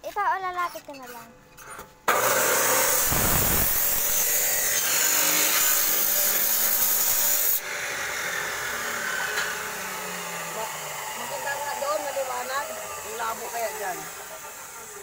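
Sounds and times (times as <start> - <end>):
grinder cutting metal rod: 2.1 - 15.0.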